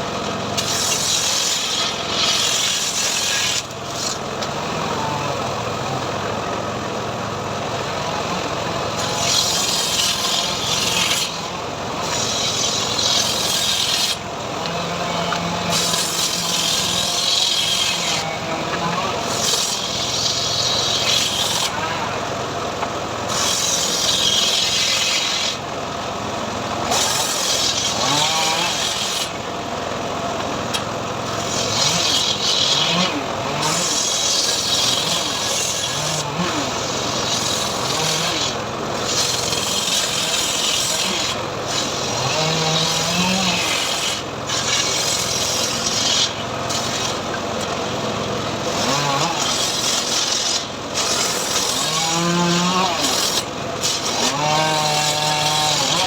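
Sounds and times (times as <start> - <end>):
hand saw rasping through wood: 0.0 - 6.1, 7.7 - 56.0.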